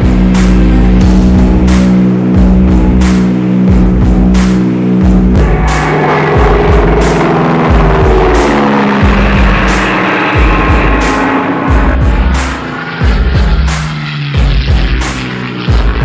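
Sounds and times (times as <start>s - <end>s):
held low chords: 0.0s - 16.0s
rock music drum beat: 0.0s - 16.0s.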